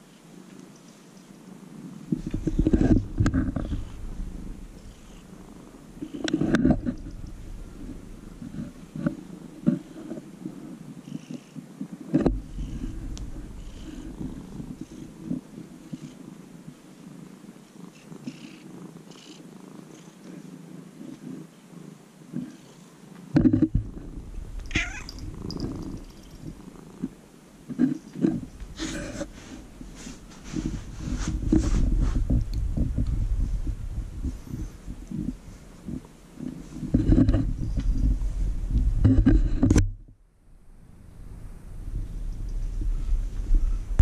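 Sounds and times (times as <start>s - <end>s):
bumps and rustles of stroking: 0.0s - 40.2s
cat purring: 0.1s - 39.5s.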